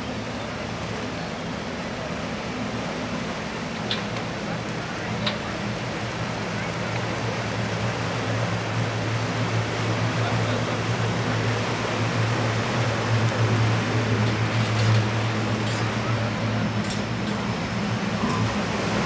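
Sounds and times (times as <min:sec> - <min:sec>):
paddle wheels churning water: 0:00.0 - 0:19.0.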